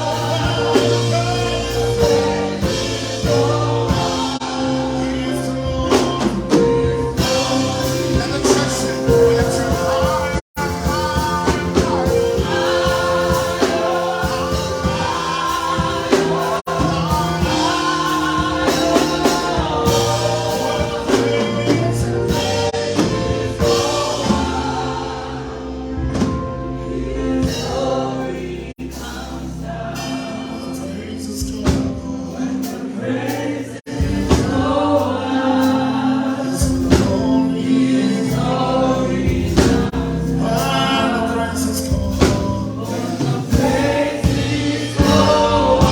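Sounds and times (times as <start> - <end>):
band with keyboard tones: 0.0 - 45.9
choir singing gospel: 0.0 - 45.9.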